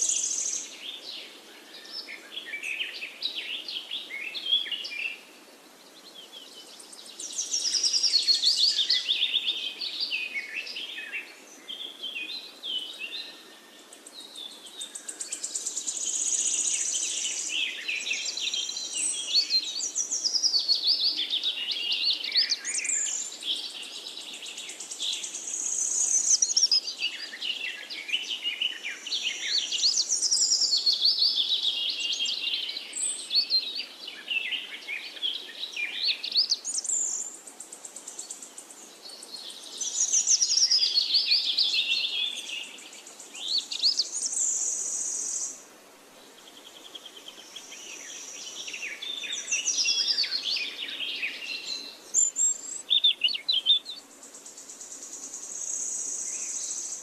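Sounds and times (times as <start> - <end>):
birds chirping and singing: 6.1 - 37.4, 38.0 - 45.6, 46.4 - 57.0.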